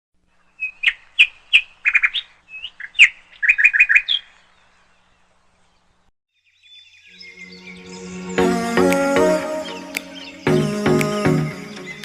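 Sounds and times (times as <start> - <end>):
songbird singing: 0.2 - 12.0.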